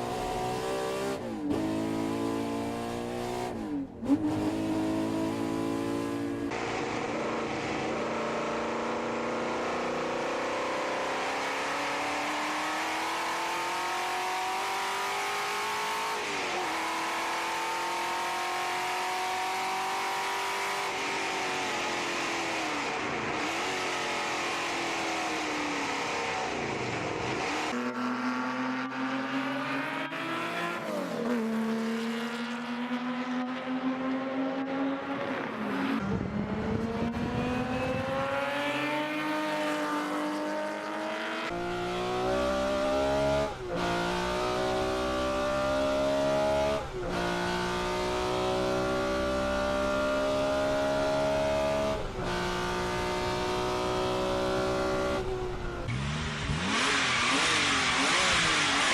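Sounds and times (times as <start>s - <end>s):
sports car engine accelerating: 0.0s - 58.9s.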